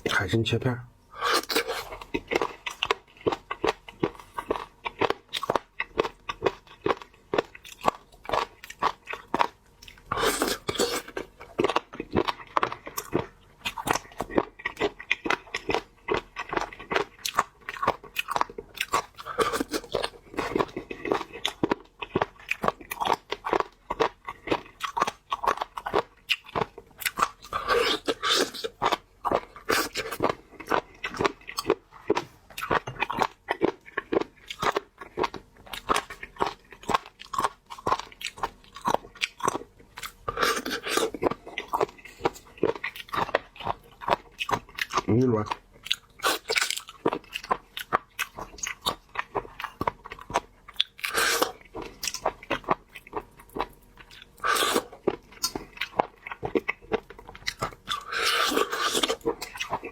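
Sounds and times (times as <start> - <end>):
person chewing crunchy food: 1.1 - 59.9.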